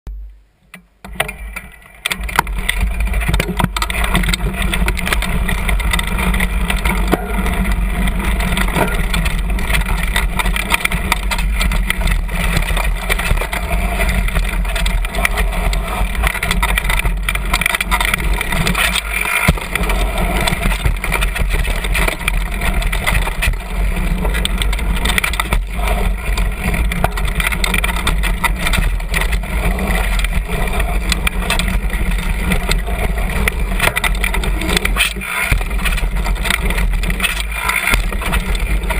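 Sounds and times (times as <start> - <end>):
bike rattles and knocks: 0.7 - 38.9
bike tyre rumble on dirt: 1.0 - 38.9.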